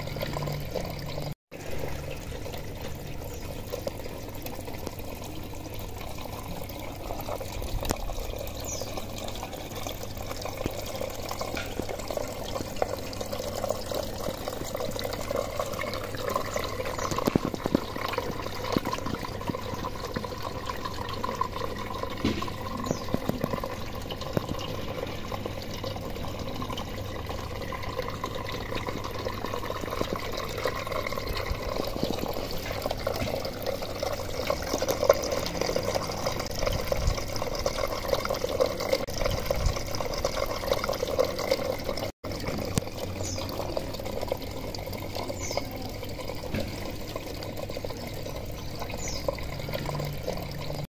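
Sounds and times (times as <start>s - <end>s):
water trickling through pipes: 0.0s - 50.9s.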